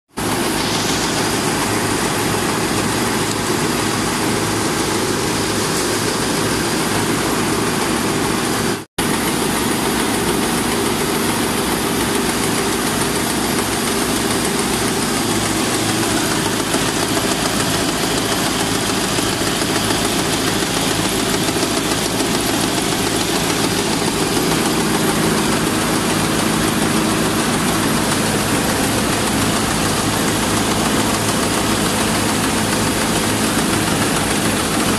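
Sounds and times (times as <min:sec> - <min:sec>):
rice mill machine din: 0:00.2 - 0:34.9.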